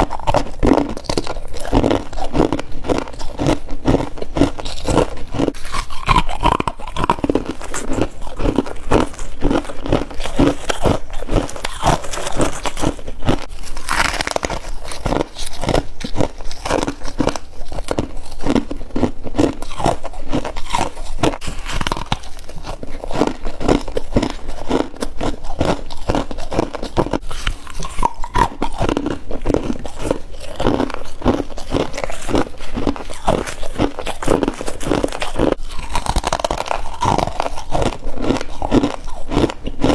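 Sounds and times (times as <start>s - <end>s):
person chewing crunchy frost: 0.0s - 39.9s.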